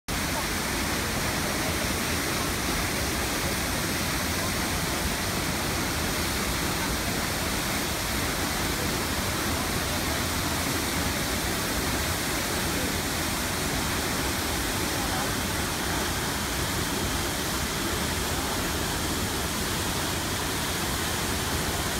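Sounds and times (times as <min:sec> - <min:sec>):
waterfall rushing: 0:00.1 - 0:21.9.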